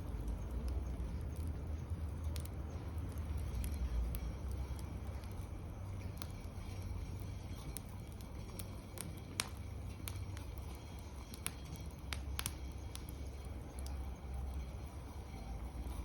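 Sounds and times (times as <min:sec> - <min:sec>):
low steady rumble: 0:00.0 - 0:16.0
wood fire crackling and popping: 0:00.0 - 0:16.0.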